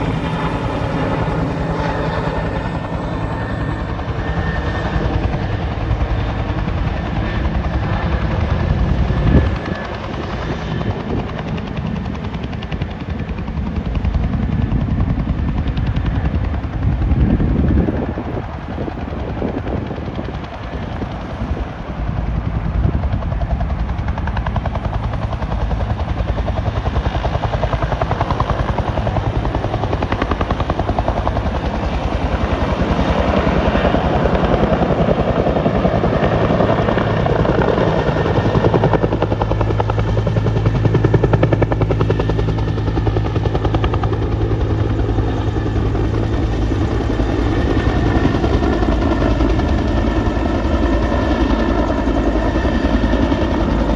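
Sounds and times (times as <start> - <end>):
helicopter rotors and turbines: 0.0 - 53.9.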